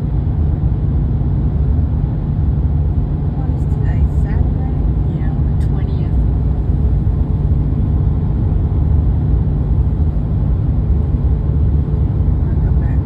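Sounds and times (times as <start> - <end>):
truck cabin road and engine rumble: 0.0 - 13.0.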